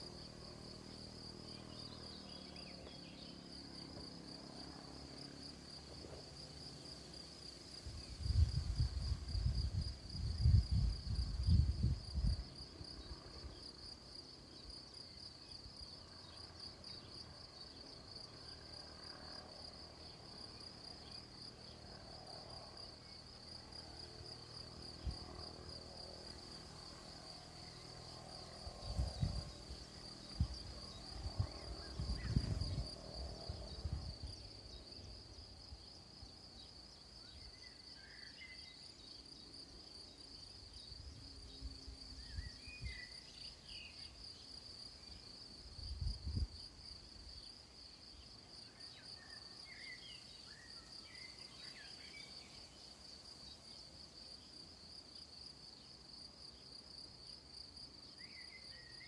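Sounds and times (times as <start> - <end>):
insects chirping: 0.0 - 59.0.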